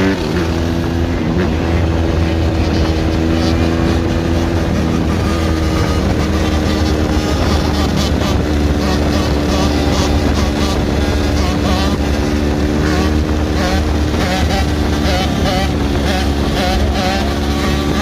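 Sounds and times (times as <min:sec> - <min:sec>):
dirt bike engine running: 0:00.0 - 0:18.0
wind rumble on microphone: 0:00.0 - 0:18.0.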